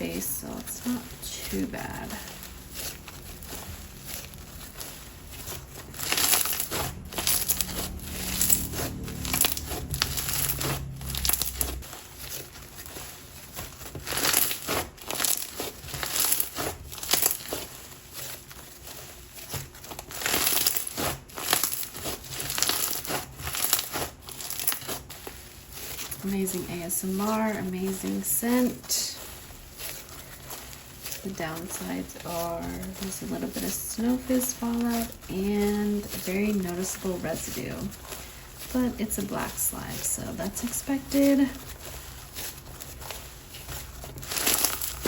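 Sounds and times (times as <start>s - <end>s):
slime crackling and crunching: 0.0s - 45.0s.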